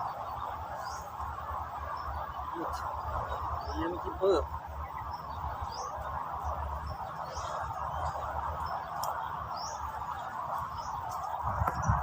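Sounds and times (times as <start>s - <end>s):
high rising bird chirps: 0.0s - 12.0s.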